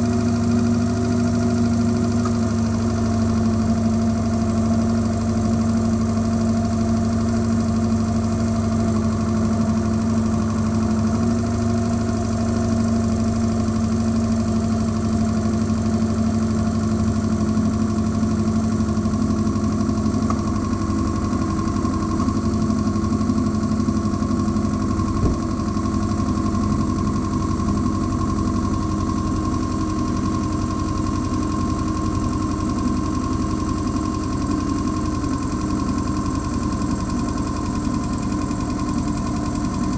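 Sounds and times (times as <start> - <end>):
car engine idling: 6.3 - 39.9.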